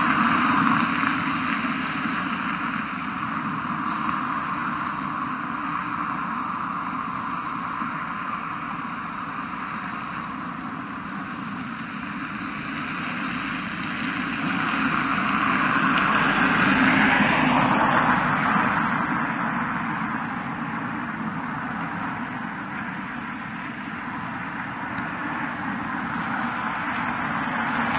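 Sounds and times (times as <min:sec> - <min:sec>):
street traffic noise: 0:00.0 - 0:27.9
vehicle passing close by: 0:00.0 - 0:27.9.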